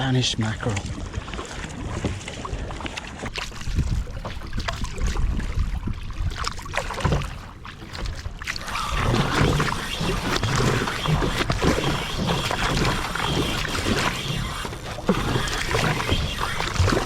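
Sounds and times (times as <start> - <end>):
water sloshing around kayak: 0.0 - 17.0.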